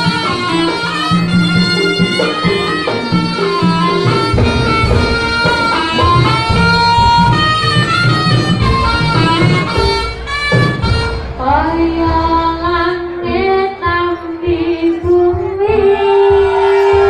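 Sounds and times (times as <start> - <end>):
drums and percussion: 0.0 - 17.0
reedy wind instrument melody: 0.0 - 17.0.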